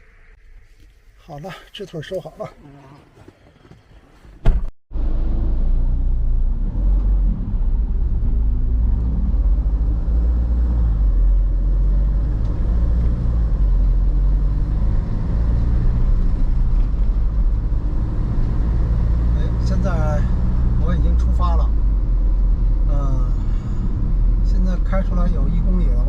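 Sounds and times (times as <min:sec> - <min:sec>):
diesel engine rumbling: 0:04.9 - 0:26.0.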